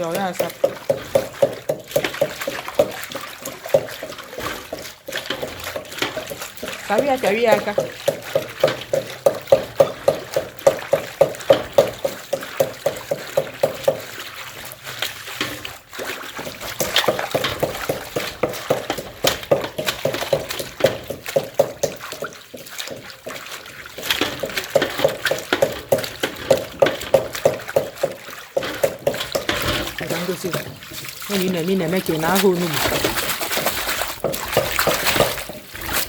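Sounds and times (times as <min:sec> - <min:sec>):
hands sloshing water in bowl: 0:00.0 - 0:36.0.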